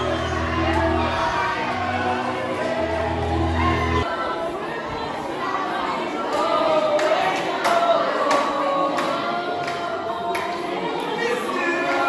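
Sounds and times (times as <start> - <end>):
group singing held notes: 0.0 - 12.0.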